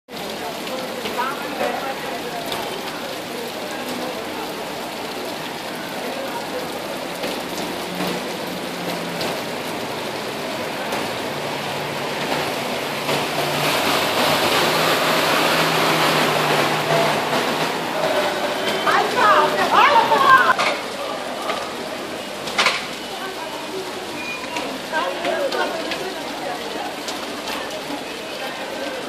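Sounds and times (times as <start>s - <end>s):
heavy rain: 0.1s - 29.0s
running water: 0.1s - 29.0s.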